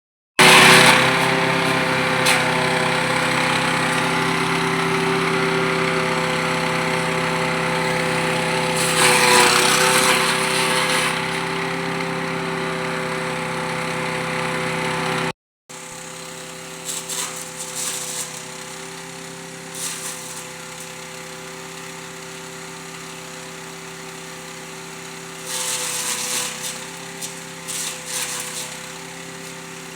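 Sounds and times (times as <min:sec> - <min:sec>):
wood chipper engine running: 0:00.4 - 0:29.9.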